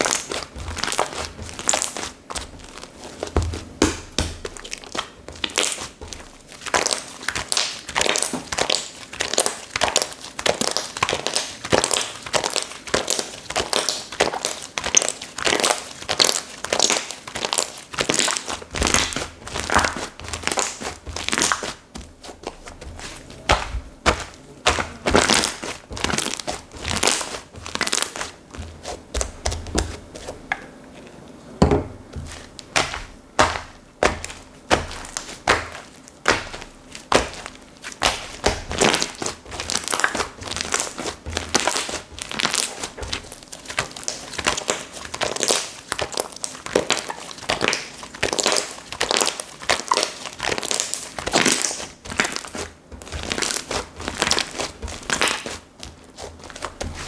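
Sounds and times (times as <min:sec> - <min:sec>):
slime squishing by hand: 0:00.0 - 0:57.0.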